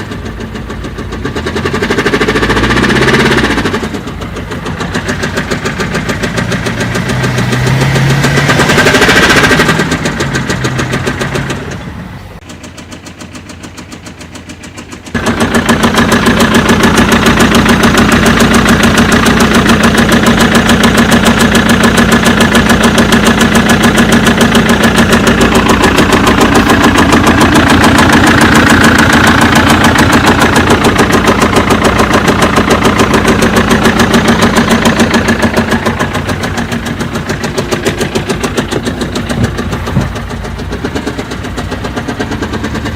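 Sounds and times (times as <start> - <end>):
diesel engine tapping knock: 0.0 - 42.9.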